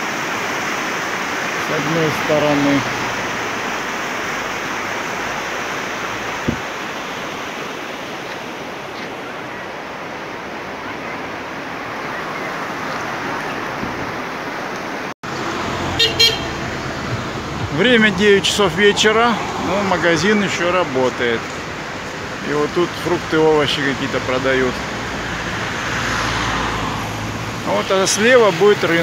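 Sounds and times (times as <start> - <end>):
fast-flowing river rushing: 0.0 - 29.0.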